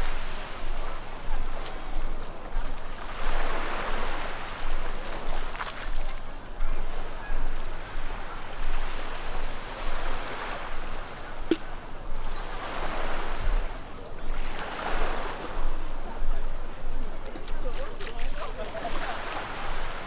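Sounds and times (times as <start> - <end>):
surf washing on beach: 0.0 - 20.0.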